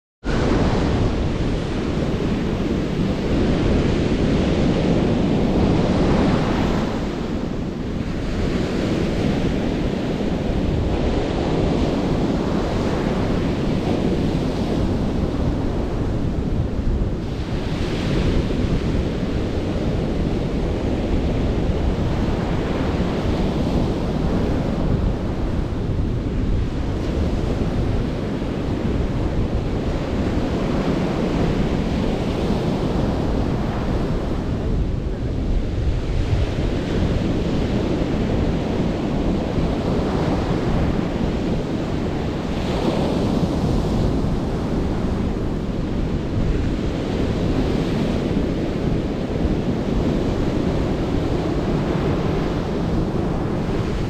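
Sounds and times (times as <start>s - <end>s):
wind buffeting microphone: 0.2s - 54.0s
ocean surf breaking on beach: 0.3s - 54.0s.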